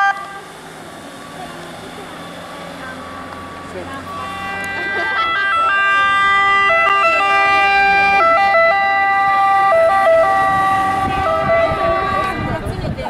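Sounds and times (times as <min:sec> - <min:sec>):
ambulance two-tone siren: 0:00.0 - 0:00.6, 0:01.2 - 0:12.8.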